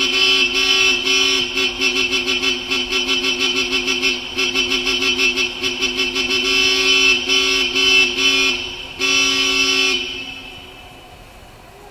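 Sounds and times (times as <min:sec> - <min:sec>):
two-tone vehicle horn in tunnel: 0:00.0 - 0:11.4.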